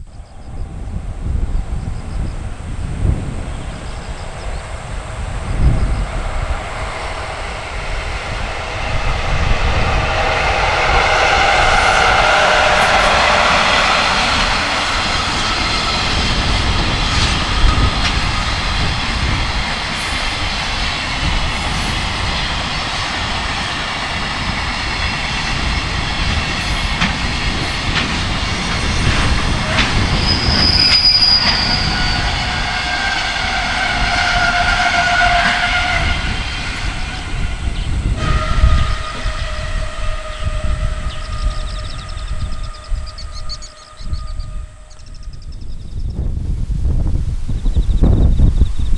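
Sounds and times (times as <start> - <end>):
freight train rumbling past: 0.0 - 48.9
train wheel squeal: 0.0 - 48.9
wind buffeting microphone: 0.0 - 48.9.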